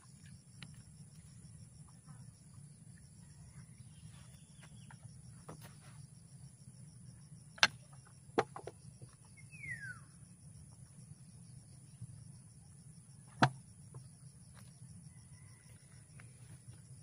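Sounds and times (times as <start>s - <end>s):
faint insect buzz: 0.0s - 17.0s.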